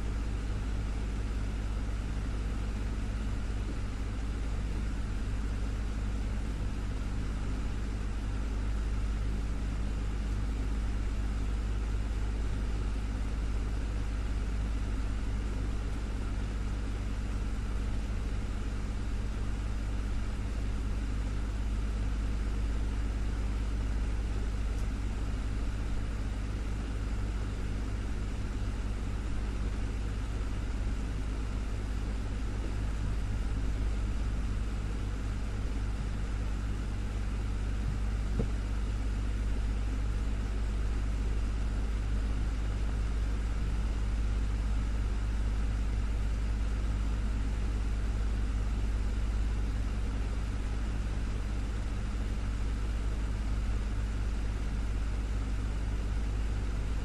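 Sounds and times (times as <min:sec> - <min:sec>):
desktop fan running: 0:00.0 - 0:57.0.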